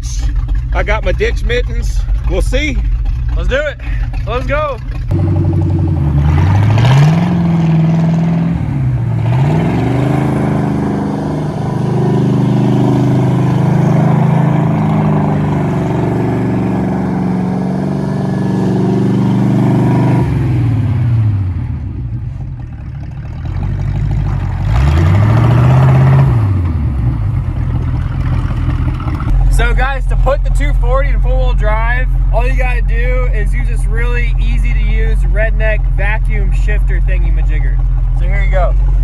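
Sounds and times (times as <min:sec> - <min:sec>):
car engine accelerating: 0:00.0 - 0:39.0.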